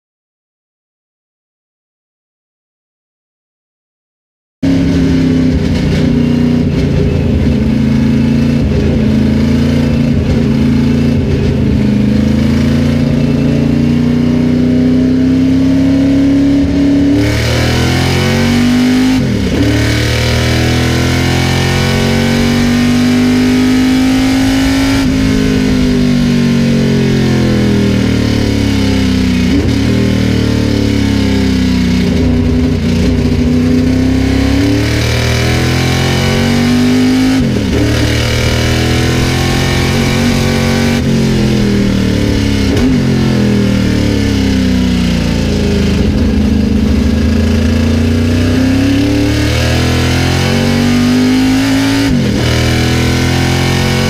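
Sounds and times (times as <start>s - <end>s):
race car engine at speed: 4.6s - 54.0s.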